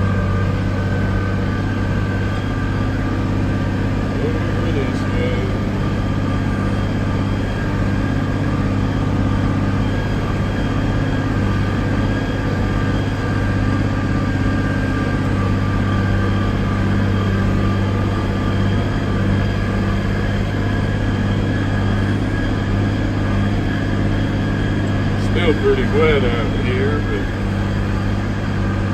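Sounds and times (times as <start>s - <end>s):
tractor engine droning: 0.0s - 28.9s.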